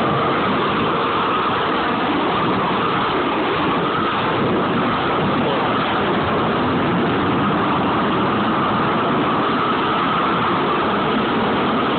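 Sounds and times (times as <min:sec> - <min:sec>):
propane torch burning: 0:00.0 - 0:11.9.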